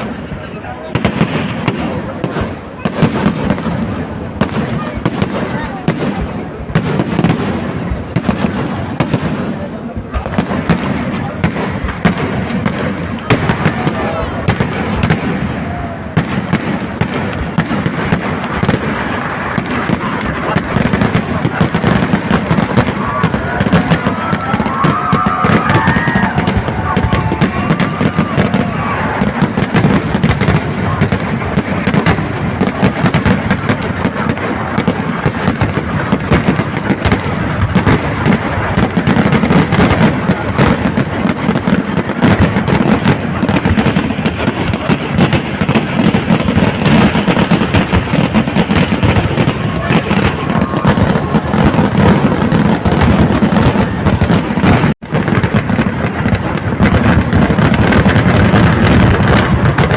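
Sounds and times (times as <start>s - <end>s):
firecrackers going off in a barrage: 0.0s - 59.9s.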